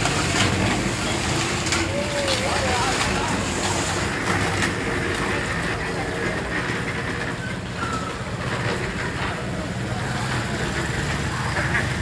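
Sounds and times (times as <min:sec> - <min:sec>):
indistinct voices: 0:00.0 - 0:12.0
traffic noise: 0:00.0 - 0:12.0.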